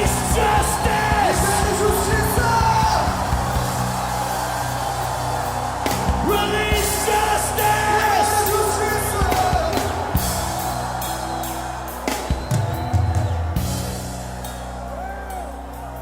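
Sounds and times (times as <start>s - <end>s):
worship band playing chords: 0.0s - 16.0s.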